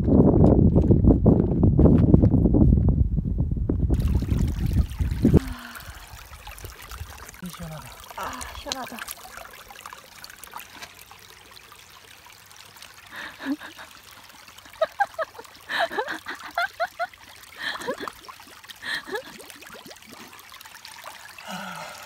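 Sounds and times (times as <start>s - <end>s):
creek trickling over stones: 3.9s - 22.0s
splashing and gurgling water: 3.9s - 22.0s.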